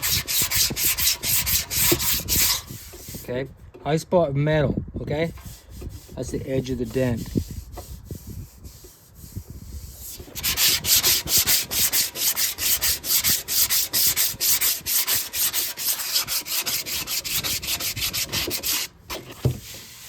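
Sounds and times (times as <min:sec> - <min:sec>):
sandpaper sanding metal: 0:00.0 - 0:03.3, 0:05.3 - 0:20.0.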